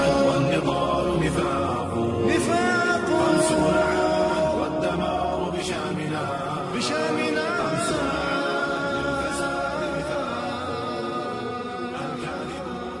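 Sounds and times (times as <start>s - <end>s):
male voices chanting: 0.0s - 13.0s.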